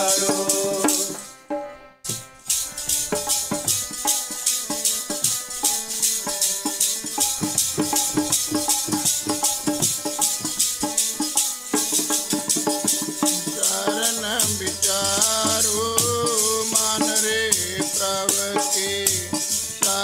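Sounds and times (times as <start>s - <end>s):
jingling shaker percussion: 0.0s - 1.2s, 2.4s - 20.0s
drum beat: 2.1s - 20.0s.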